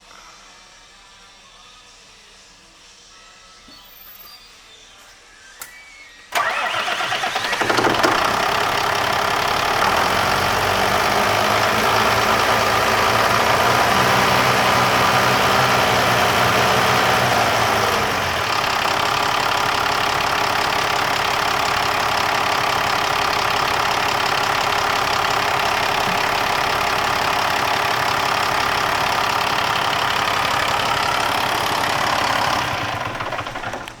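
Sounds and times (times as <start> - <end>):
diesel truck engine starting and idling: 6.3 - 34.0.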